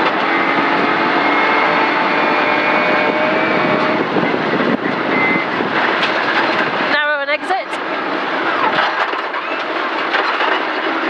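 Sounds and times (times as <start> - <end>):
car engine at steady revs: 0.0 - 11.0
road and tyre noise: 0.0 - 11.0.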